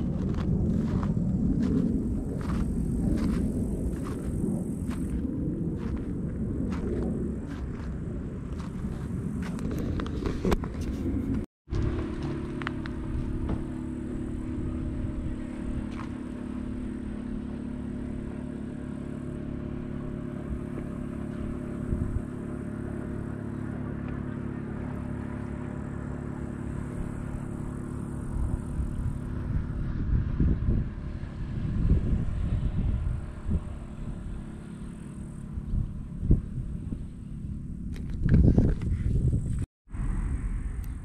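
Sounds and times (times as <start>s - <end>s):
motorhome engine drone: 0.0s - 41.0s
road rumble: 0.0s - 41.0s.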